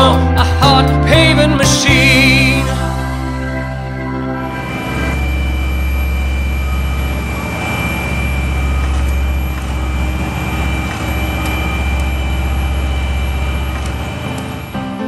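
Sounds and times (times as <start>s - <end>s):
high whine: 1.8s - 15.0s
diesel engine drone: 2.0s - 15.0s.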